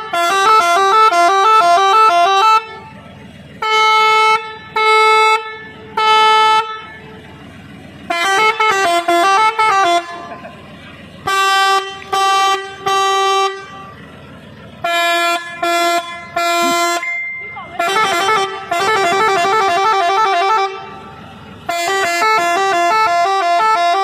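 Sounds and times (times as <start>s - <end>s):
air horn blasts: 0.0s - 3.0s, 3.6s - 7.3s, 8.1s - 10.4s, 11.2s - 14.0s, 14.8s - 24.0s
air horn tune: 0.0s - 3.0s, 3.6s - 7.2s, 8.1s - 10.4s, 11.2s - 14.0s, 14.8s - 24.0s.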